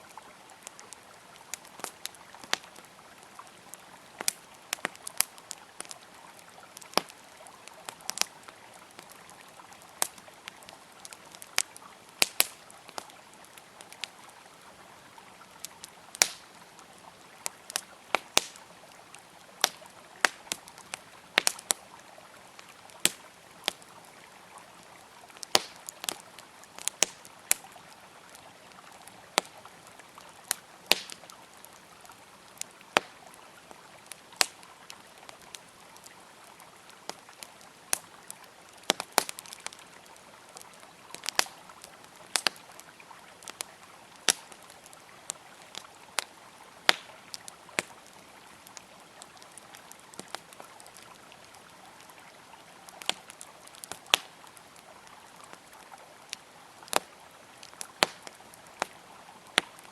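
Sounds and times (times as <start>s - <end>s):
river flowing: 0.0s - 59.9s
wood fire crackling and popping: 0.1s - 59.9s.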